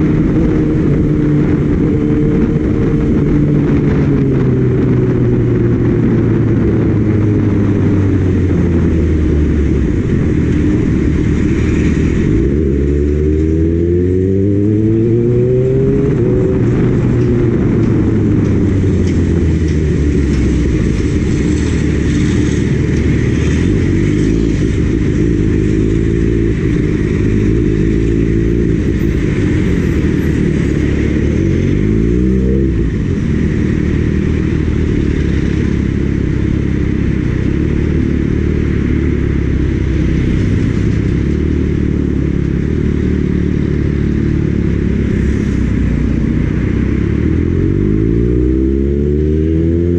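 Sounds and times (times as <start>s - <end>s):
motorcycle engine revving: 0.0s - 49.9s
wind noise on microphone: 0.0s - 49.9s.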